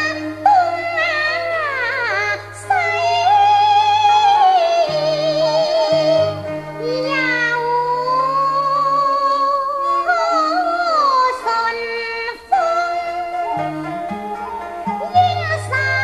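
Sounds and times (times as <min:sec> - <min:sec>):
instrumental accompaniment: 0:00.0 - 0:16.0
woman singing opera: 0:00.0 - 0:16.0.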